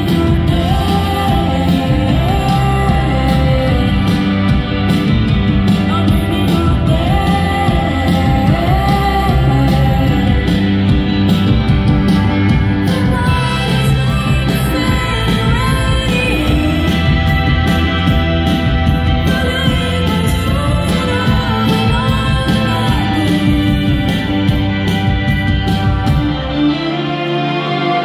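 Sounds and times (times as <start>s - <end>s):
person singing lead vocal: 0.0s - 11.2s, 12.6s - 28.0s
live band playing: 0.0s - 28.0s.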